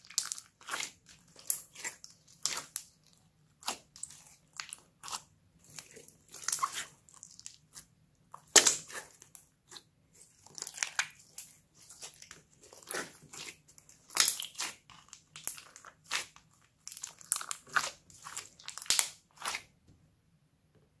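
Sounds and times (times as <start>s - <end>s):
slime squelching and popping: 0.0s - 19.7s.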